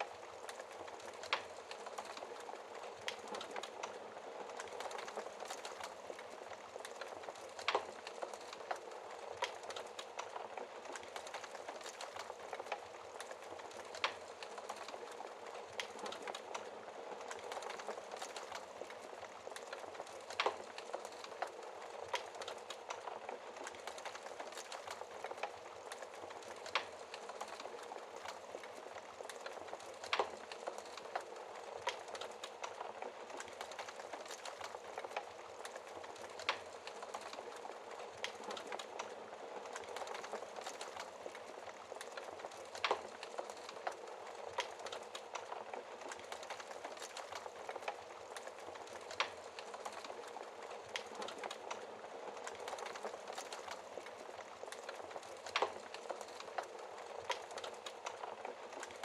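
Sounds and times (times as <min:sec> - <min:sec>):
wood fire crackling: 0:00.0 - 0:59.0
fire pops: 0:00.3 - 0:59.0.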